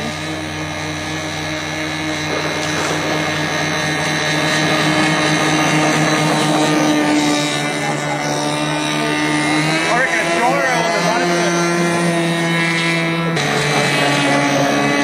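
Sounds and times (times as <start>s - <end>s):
model airboat motor buzzing: 0.0s - 15.0s.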